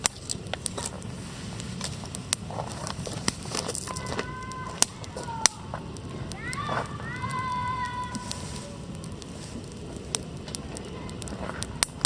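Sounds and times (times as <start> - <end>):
wood campfire crackling: 0.0 - 12.0.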